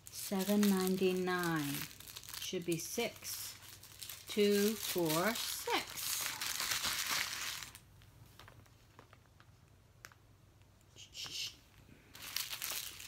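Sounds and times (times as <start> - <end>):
plastic bags crinkling: 0.0 - 10.2, 12.1 - 13.0.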